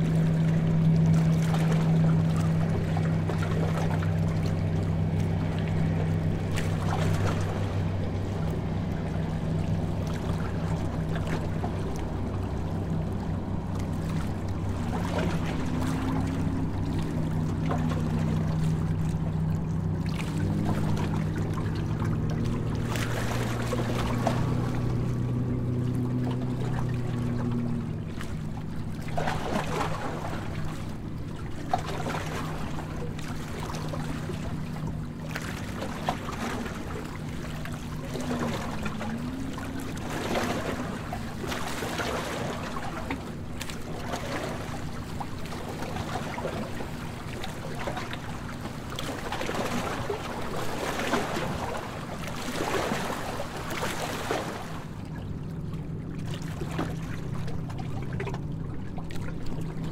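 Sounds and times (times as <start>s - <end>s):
boat engine droning: 0.0s - 59.9s
water splashing along hull: 0.0s - 59.9s.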